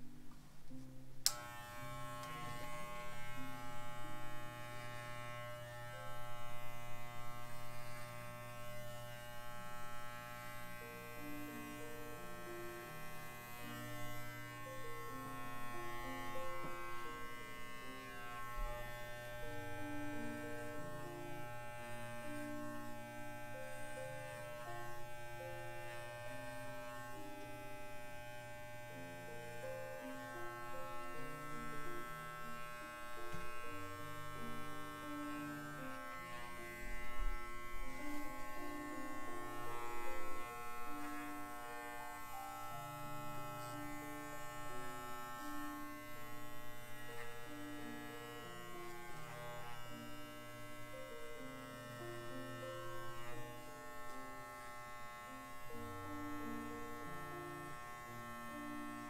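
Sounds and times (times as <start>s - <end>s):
electric hair clippers buzzing: 0.0s - 59.0s
faint music: 0.0s - 59.0s.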